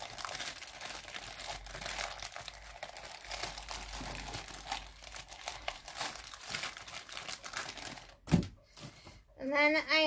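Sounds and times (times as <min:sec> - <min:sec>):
packaging crinkling: 0:00.0 - 0:08.9.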